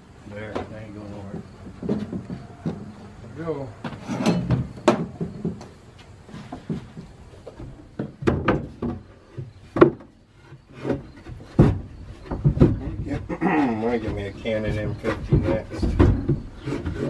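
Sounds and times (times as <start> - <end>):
wood knocking and rubbing: 0.4 - 17.0.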